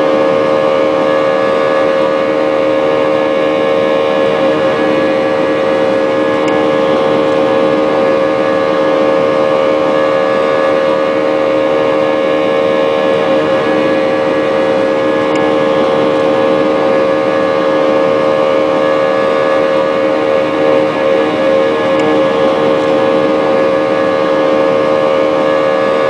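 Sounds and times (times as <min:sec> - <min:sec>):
jet engine roar in cabin: 0:00.0 - 0:26.0.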